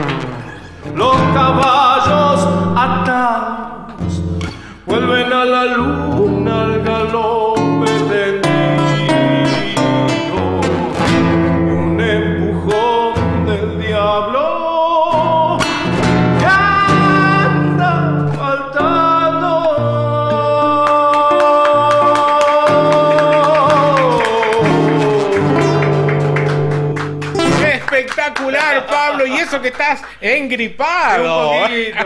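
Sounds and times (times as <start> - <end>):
man singing folk song: 0.0 - 27.9
strummed classical guitar: 0.0 - 28.1.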